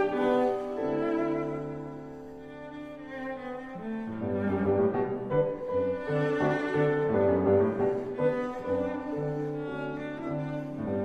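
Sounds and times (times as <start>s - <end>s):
bowed cello and double bass: 0.0s - 11.0s
piano: 0.0s - 11.0s.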